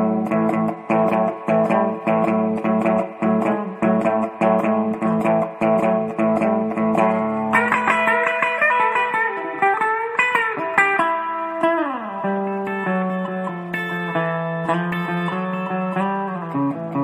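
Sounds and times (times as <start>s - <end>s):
guitar riff: 0.0s - 17.0s.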